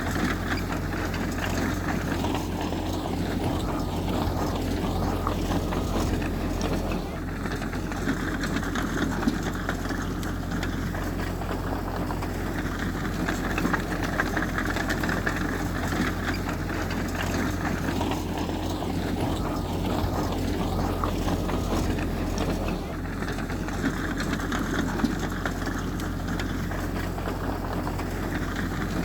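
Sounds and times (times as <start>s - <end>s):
heavy machinery diesel engine: 0.0s - 29.0s.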